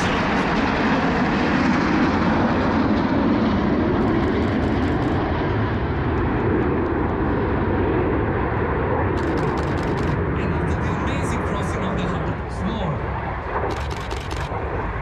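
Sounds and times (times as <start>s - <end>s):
jets passing overhead: 0.0s - 15.0s.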